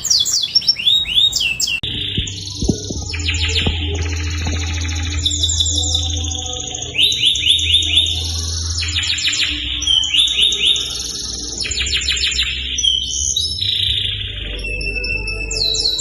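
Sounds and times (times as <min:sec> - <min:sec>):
canary singing: 0:00.0 - 0:16.0
steady low hum: 0:01.8 - 0:16.0.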